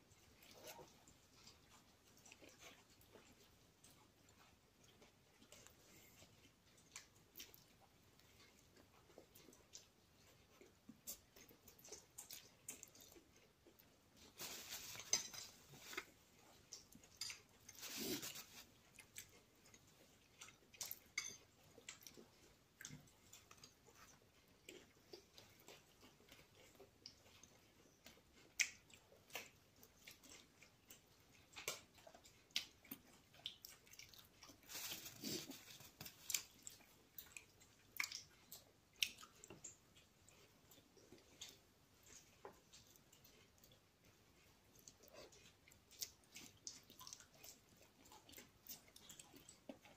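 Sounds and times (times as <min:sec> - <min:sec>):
person chewing: 0:00.0 - 0:49.9.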